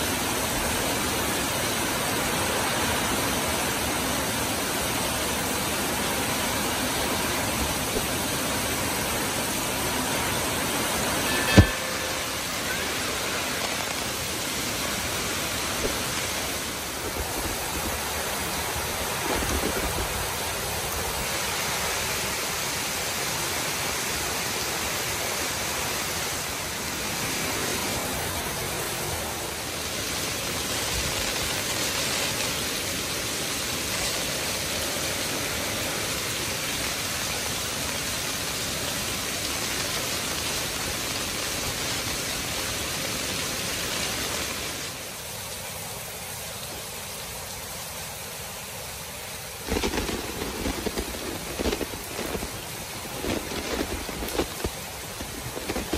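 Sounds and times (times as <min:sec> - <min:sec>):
heavy rain on paving: 0:00.0 - 0:55.9.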